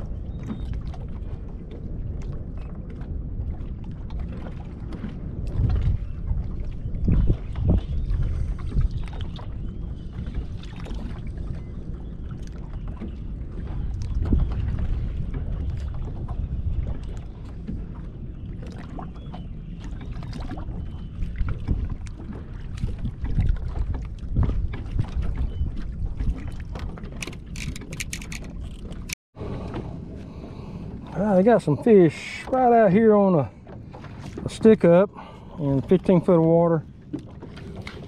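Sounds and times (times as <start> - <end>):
waves lapping against boat hull: 0.0 - 38.0
wind rumbling on microphone: 0.0 - 38.0.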